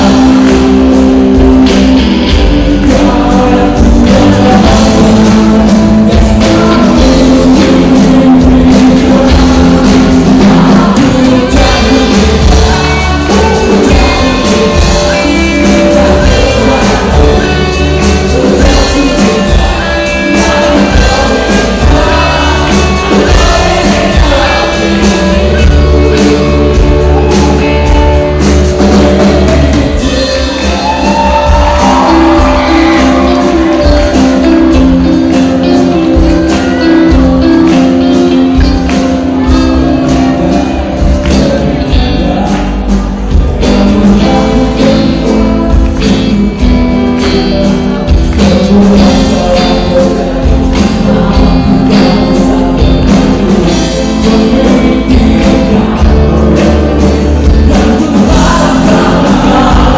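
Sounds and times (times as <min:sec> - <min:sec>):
drum kit: 0:00.0 - 0:59.9
electric bass: 0:00.0 - 0:59.9
electric guitar: 0:00.0 - 0:59.9
person singing: 0:00.0 - 0:59.9.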